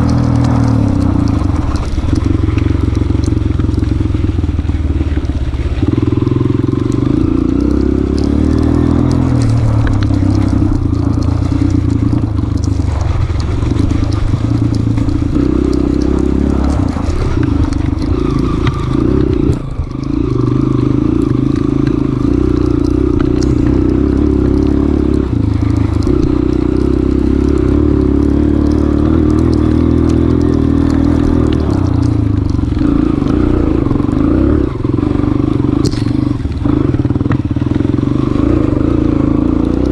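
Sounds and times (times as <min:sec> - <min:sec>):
motorcycle engine revving under load: 0:00.0 - 0:39.9.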